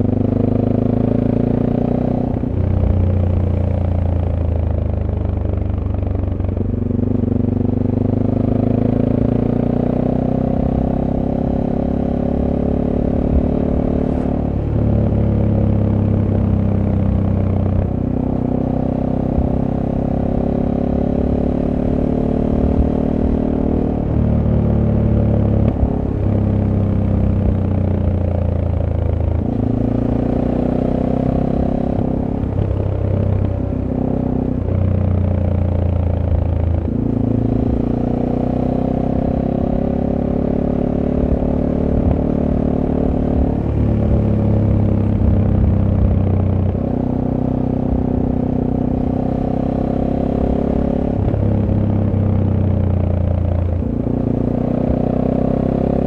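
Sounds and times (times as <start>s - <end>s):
motorcycle engine revving and shifting: 0.0s - 56.0s.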